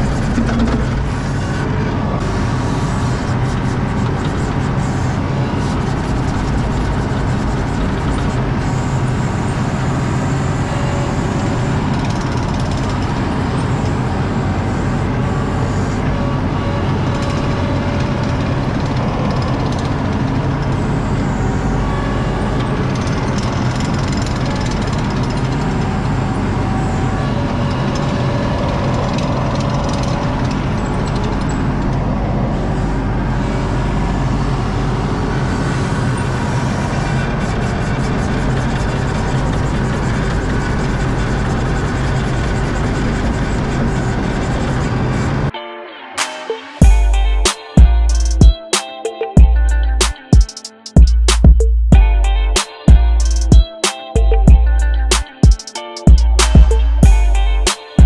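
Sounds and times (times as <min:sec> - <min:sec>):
diesel engine droning: 0:00.0 - 0:45.5, 0:46.8 - 0:48.5, 0:51.1 - 0:53.6, 0:54.2 - 0:55.3, 0:56.2 - 0:57.7.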